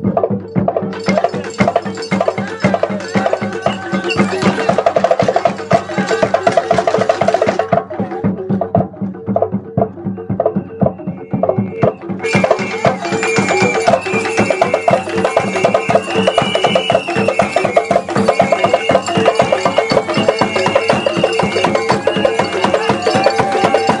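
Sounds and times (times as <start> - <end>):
drums: 0.0 - 24.0
wood block strikes: 0.0 - 24.0.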